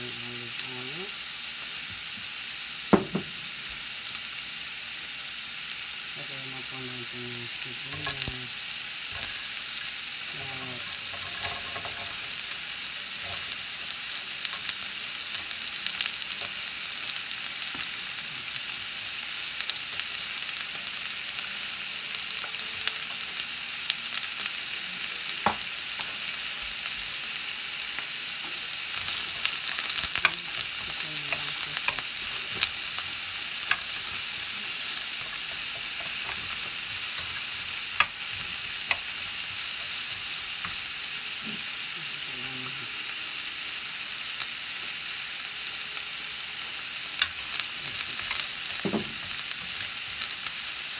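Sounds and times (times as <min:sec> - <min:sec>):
vegetables sizzling in oil: 0:00.0 - 0:50.9.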